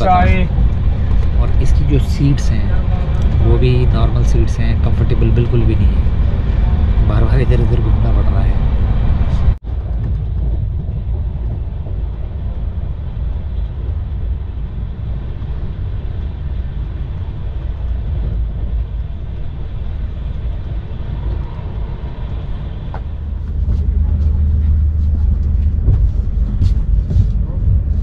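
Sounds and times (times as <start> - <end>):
train rumbling from inside coach: 0.0 - 28.0.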